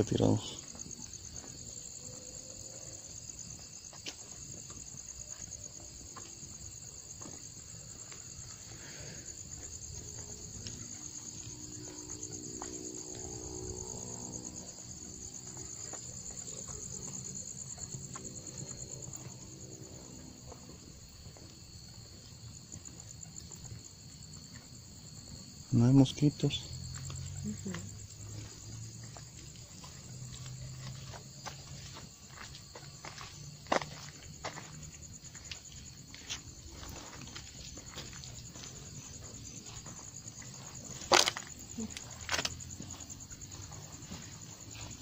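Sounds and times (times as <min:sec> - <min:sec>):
crickets chirring: 0:00.0 - 0:45.0.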